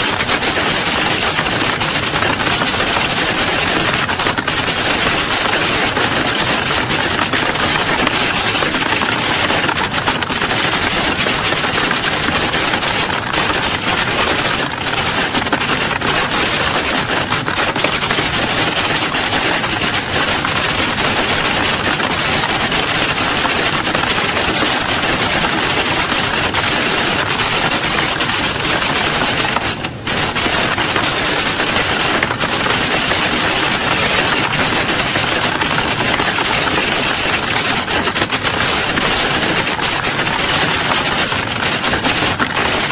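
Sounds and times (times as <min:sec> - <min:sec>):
many people typing on keyboards: 0:00.0 - 0:42.9.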